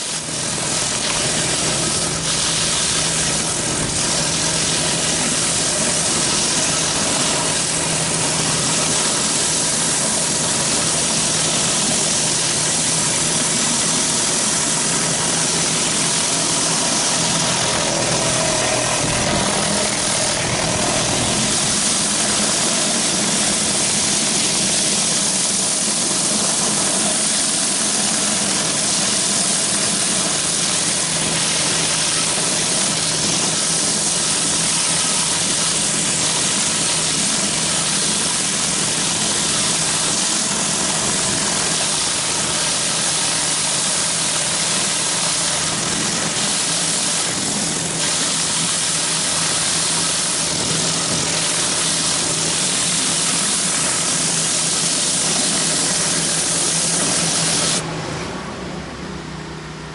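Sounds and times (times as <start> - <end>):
water jets hissing on concrete: 0.0 - 57.8
pressure washer motor hum: 0.0 - 59.9.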